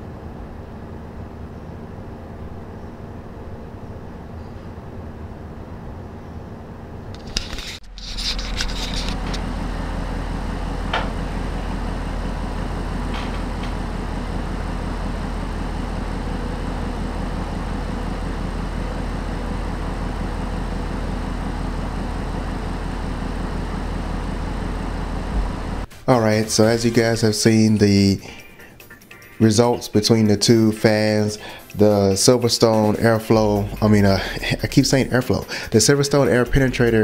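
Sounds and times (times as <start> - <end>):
low hum: 0.0 - 29.0, 29.7 - 37.0
cooling fan whirring: 0.0 - 37.0.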